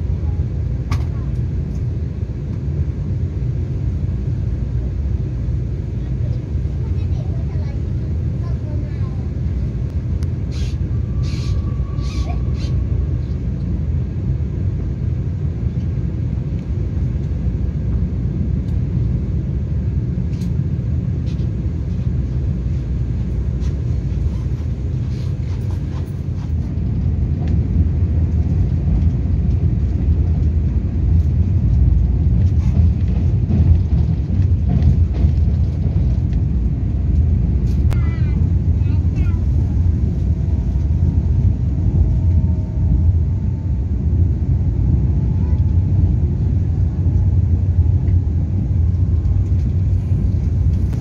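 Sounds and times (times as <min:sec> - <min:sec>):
train running rumble: 0:00.0 - 0:51.0.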